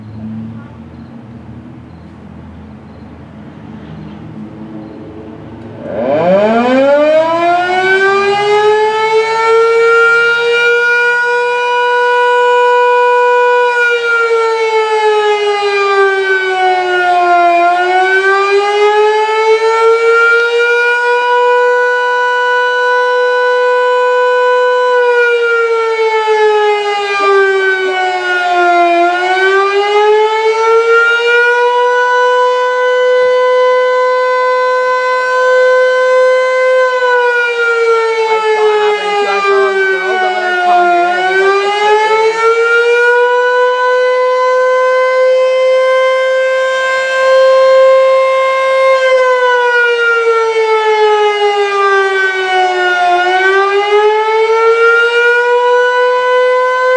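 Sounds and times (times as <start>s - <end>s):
rotating siren wailing: 4.2s - 56.9s.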